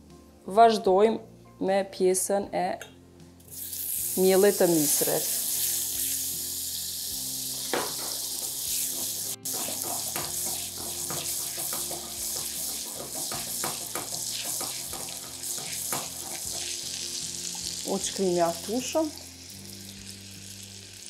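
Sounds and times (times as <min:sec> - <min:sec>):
hot pot hissing and crackling: 0:03.5 - 0:21.0.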